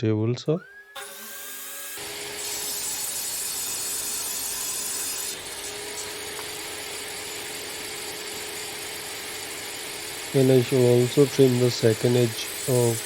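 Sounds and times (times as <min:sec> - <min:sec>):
saw blade humming: 0:00.5 - 0:13.0
table saw cutting plywood: 0:00.6 - 0:13.0.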